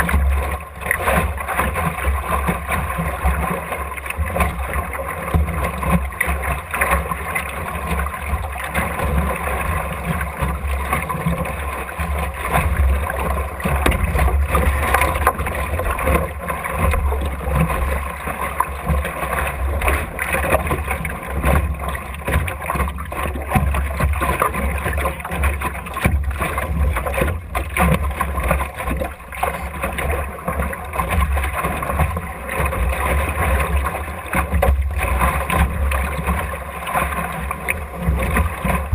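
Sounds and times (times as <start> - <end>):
water splashing against hull: 0.0 - 38.9.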